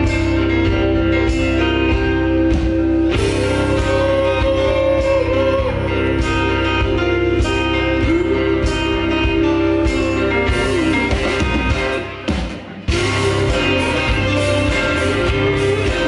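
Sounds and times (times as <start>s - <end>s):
live band playing amplified music: 0.0s - 16.0s.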